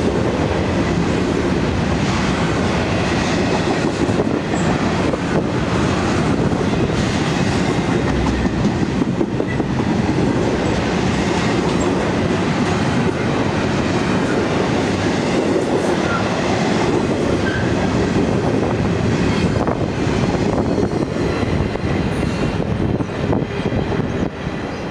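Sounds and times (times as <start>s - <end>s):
freight train rolling past: 0.0s - 24.9s
steel wheels clattering on rails: 0.0s - 24.9s.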